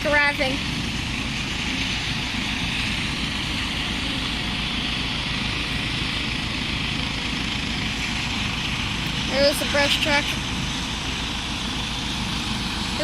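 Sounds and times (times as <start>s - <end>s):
helicopter turbine hiss: 0.0s - 13.0s.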